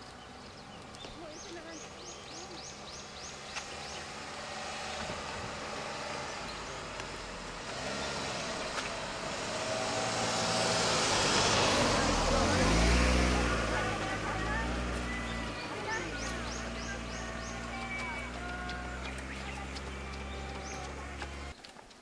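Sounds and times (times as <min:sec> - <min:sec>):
car approaching: 0:00.0 - 0:21.6.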